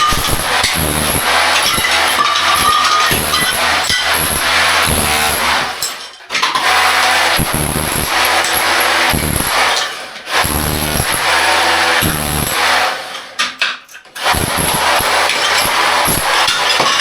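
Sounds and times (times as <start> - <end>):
power tool humming: 0.0 - 5.8, 6.6 - 13.0, 14.2 - 16.6.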